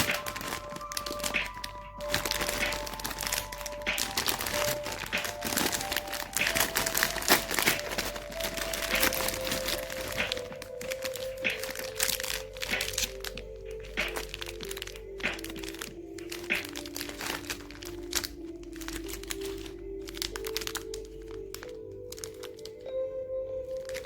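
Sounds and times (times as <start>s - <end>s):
plastic wrappers crinkling: 0.0s - 24.0s
soft background music: 0.0s - 24.0s.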